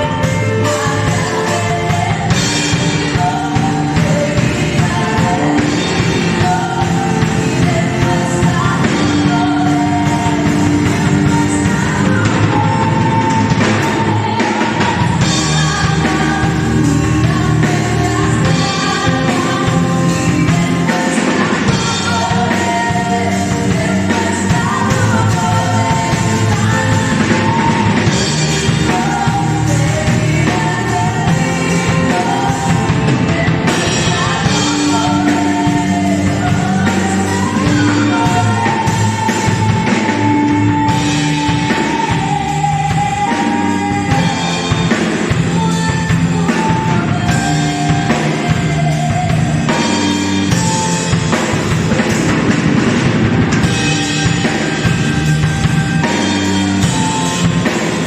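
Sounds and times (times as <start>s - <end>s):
drum kit: 0.0s - 58.0s
worship song singing with band: 0.0s - 58.0s.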